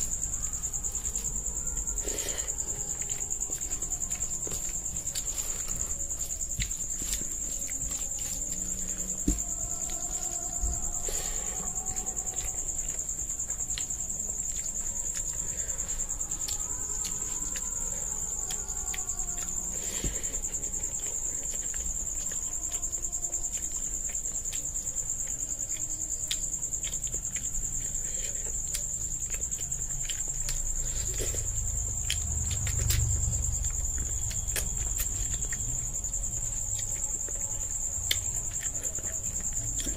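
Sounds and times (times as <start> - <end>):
chewing: 0.0 - 39.9
crickets trilling: 0.0 - 39.9.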